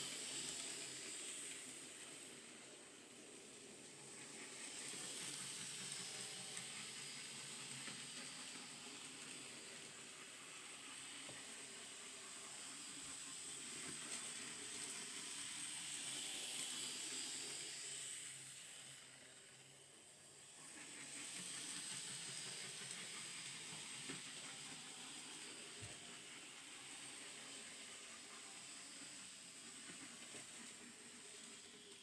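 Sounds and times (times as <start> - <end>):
model train whirring on track: 0.0 - 32.0.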